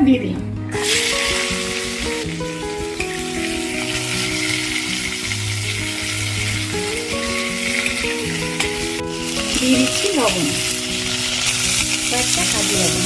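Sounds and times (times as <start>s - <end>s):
food sizzling in hot fat: 0.7s - 13.0s.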